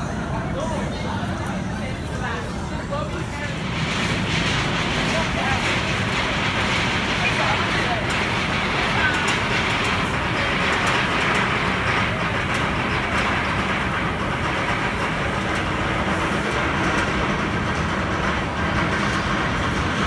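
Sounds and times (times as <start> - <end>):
roller coaster rolling rumble: 0.0 - 20.0.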